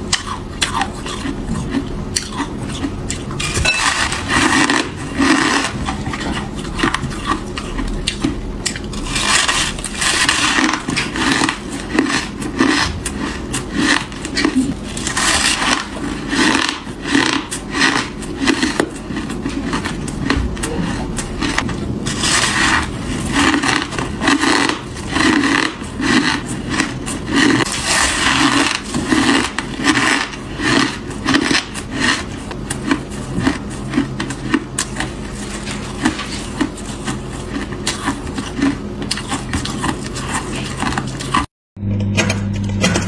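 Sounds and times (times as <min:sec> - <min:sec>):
crunching and chewing frost: 0:00.0 - 0:41.5.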